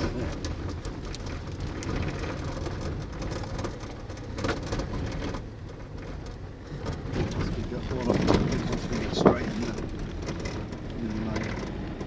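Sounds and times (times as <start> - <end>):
car engine and road rumble: 0.0 - 12.0
tyres crunching over loose stones: 0.0 - 12.0.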